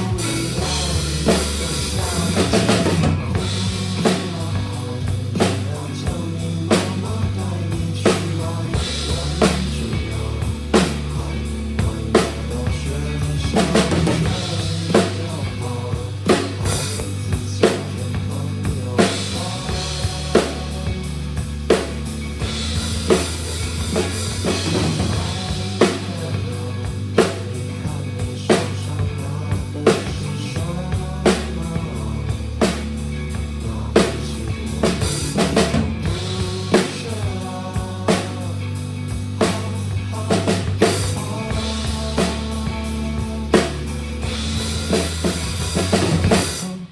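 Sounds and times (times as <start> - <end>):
drum kit playing: 0.0 - 46.9
recorded rock music: 0.0 - 46.9.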